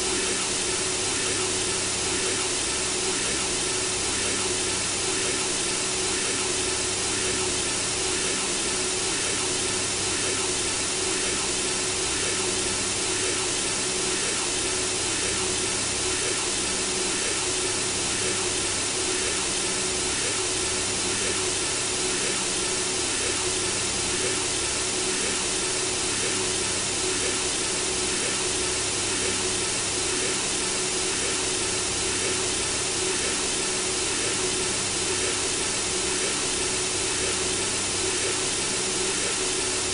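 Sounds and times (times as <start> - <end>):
faint humming tone: 0.0 - 39.9.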